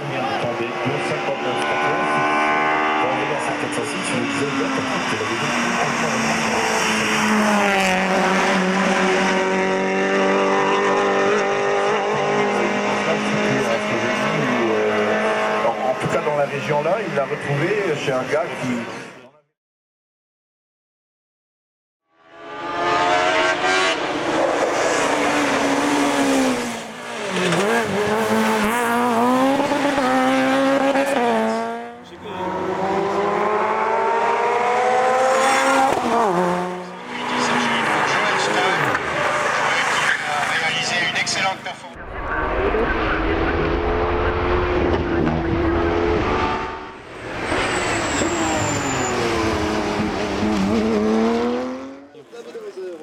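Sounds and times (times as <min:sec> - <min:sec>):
racing car engine revving: 0:00.0 - 0:17.2, 0:22.3 - 0:52.2.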